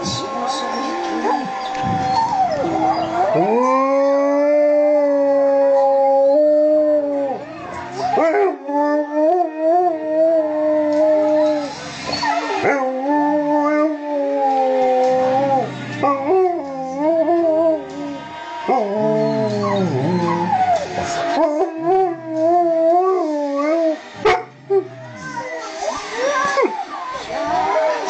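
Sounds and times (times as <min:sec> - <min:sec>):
dog howling: 0:00.0 - 0:28.0.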